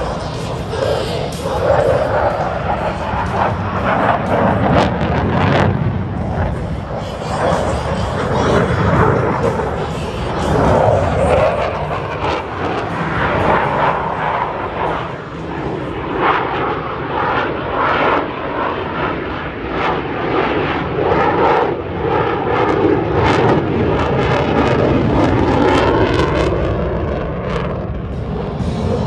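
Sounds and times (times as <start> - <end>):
aircraft engine noise: 0.0 - 29.0.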